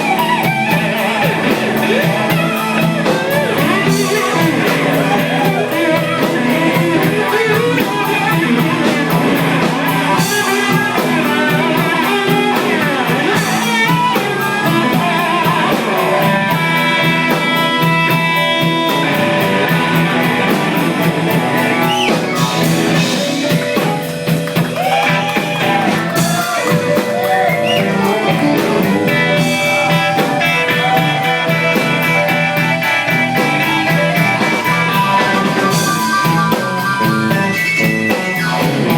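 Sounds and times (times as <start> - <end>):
blues band playing: 0.0 - 38.9
lead guitar bending notes: 0.0 - 38.9.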